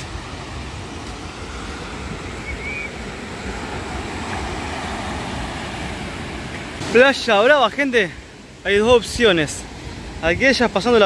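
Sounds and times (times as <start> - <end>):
wind rumbling on microphone: 0.0 - 7.2, 8.2 - 11.0
ocean waves breaking on beach: 0.0 - 11.0.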